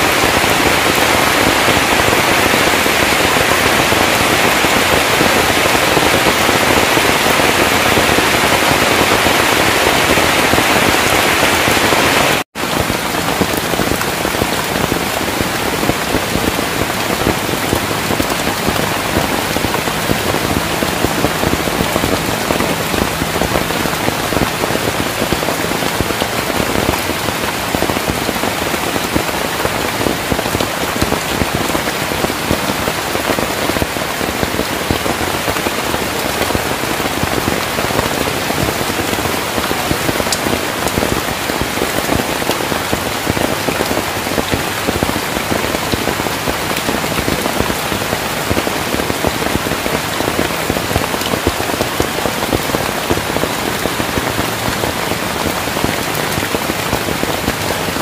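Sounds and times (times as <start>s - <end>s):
heavy rain on vegetation: 0.0s - 58.0s.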